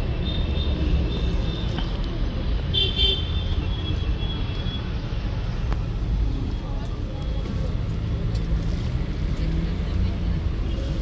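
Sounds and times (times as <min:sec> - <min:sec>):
low rumble of street noise: 0:00.0 - 0:11.0.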